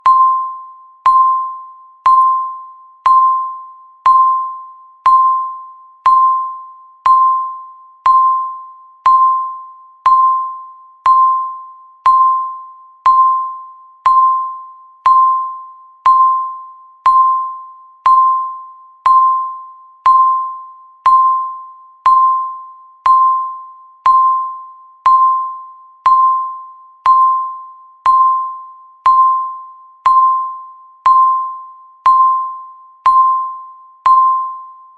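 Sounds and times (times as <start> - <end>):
timer beeping: 0.0 - 34.9.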